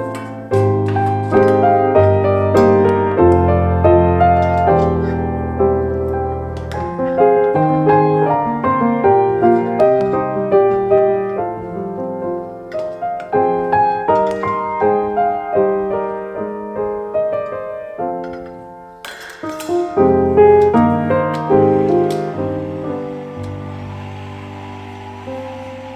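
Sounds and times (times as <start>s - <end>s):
gentle solo piano melody: 0.0s - 24.3s.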